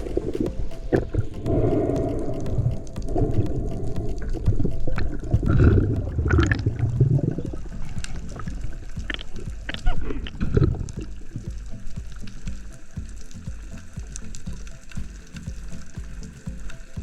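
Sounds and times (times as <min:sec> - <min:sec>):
sharp clicks: 0:00.0 - 0:17.0
water sloshing and gurgling: 0:00.0 - 0:17.0.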